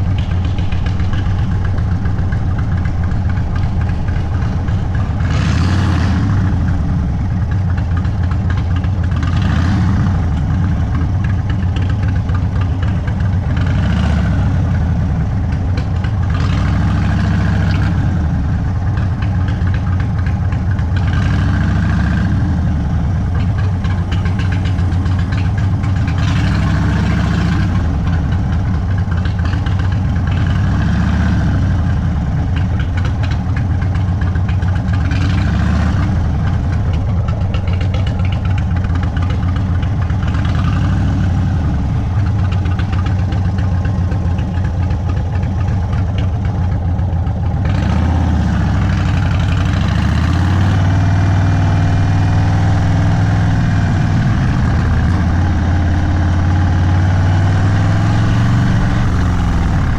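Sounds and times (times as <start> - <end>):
motorcycle engine revving at low speed: 0.0 - 59.9.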